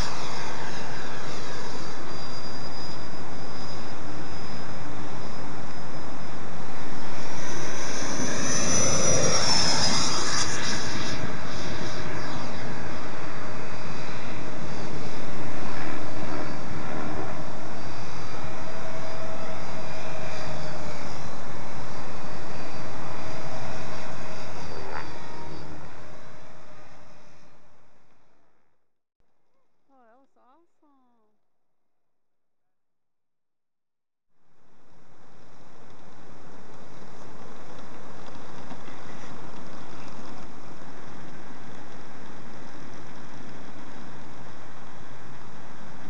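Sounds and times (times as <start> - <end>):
electric ducted fan whining: 0.0 - 28.1, 34.5 - 46.0.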